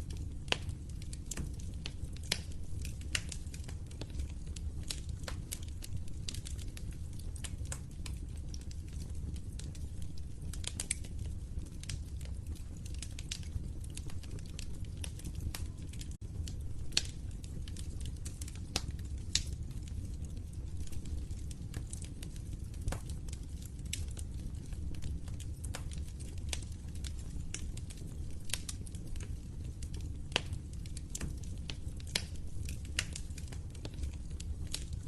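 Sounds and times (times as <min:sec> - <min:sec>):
fire pops and snaps: 0:00.0 - 0:35.0
wood fire crackling: 0:00.0 - 0:35.0.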